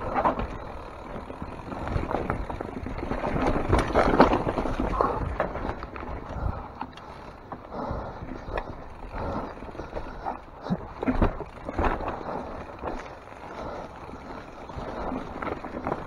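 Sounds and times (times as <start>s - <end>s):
bike knocking and rattling: 0.0s - 16.0s
tyre and trail noise: 0.0s - 16.0s.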